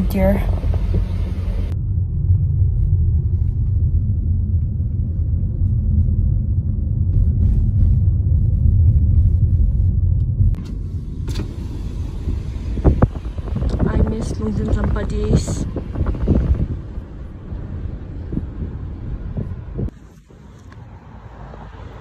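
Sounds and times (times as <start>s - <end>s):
car cabin road and engine rumble: 0.0s - 22.0s.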